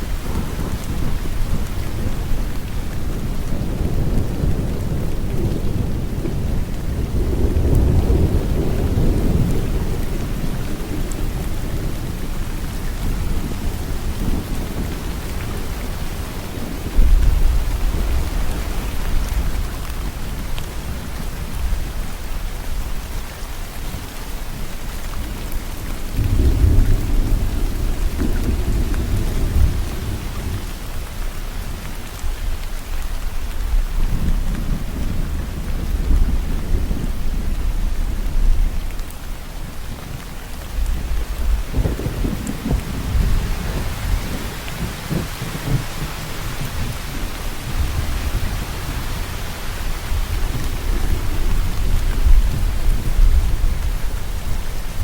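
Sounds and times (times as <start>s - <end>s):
thunder rumbles: 0.0s - 23.1s, 24.6s - 32.7s, 33.3s - 55.0s
steady rain hiss: 0.0s - 55.0s.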